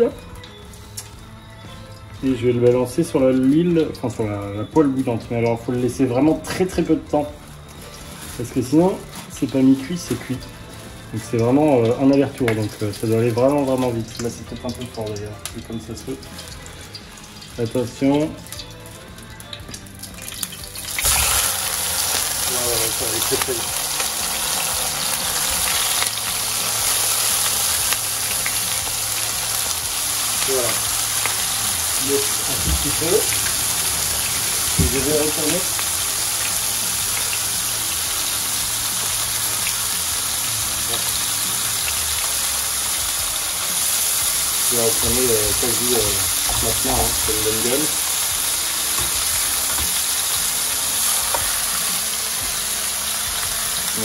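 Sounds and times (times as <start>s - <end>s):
fish sizzling in hot oil: 0.0s - 54.0s.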